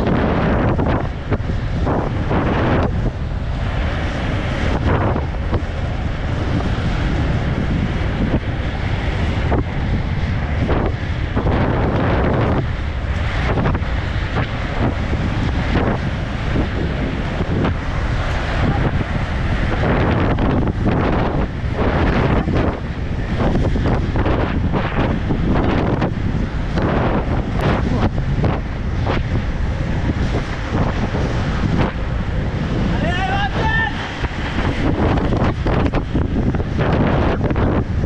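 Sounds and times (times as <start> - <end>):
skate wheels rolling on asphalt: 0.0 - 38.0
wind buffeting microphone: 0.0 - 38.0.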